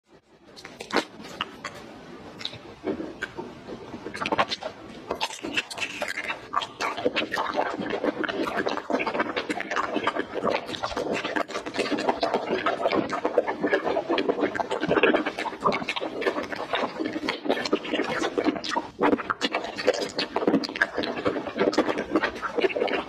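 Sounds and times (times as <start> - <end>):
wet chewing of jelly candy: 0.6 - 23.0.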